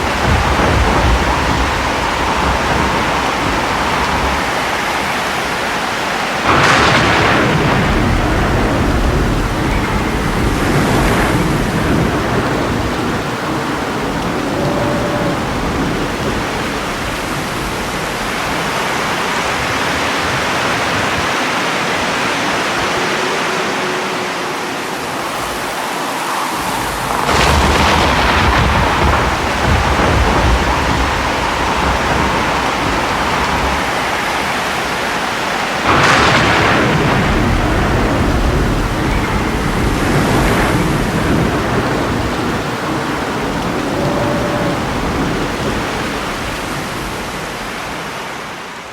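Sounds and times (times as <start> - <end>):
steady rain: 0.0 - 48.9
thunder cracks and rumble: 0.0 - 48.9.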